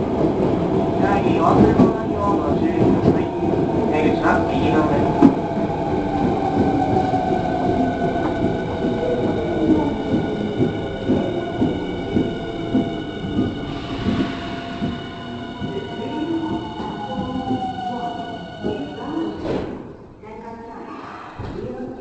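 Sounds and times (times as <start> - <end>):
train rumble: 0.0 - 20.2.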